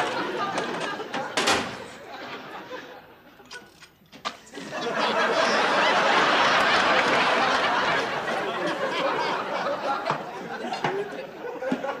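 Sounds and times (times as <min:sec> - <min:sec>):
studio audience laughing: 0:00.0 - 0:03.7, 0:04.5 - 0:12.0.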